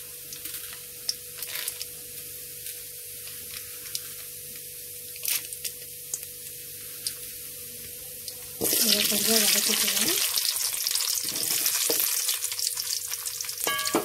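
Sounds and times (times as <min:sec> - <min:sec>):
hot oil sizzling with popping seeds: 0:00.0 - 0:14.0.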